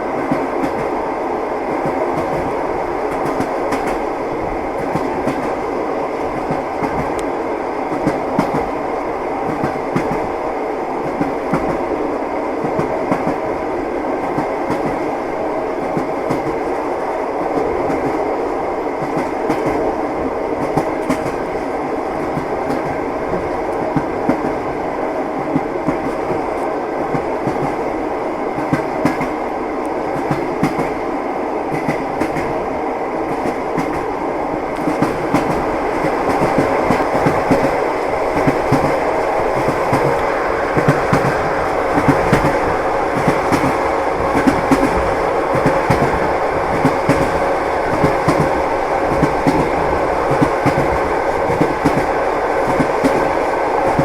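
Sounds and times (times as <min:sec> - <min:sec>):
train rumbling along track: 0:00.0 - 0:54.0.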